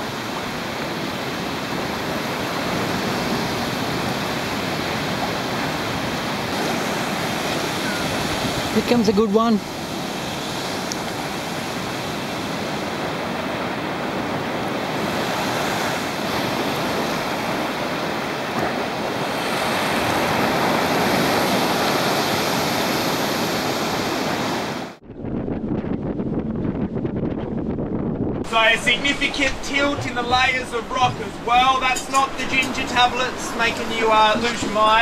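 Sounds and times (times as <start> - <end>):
surf surging against cliff: 0.0 - 25.0, 28.4 - 35.0
wind buffeting microphone: 0.0 - 35.0.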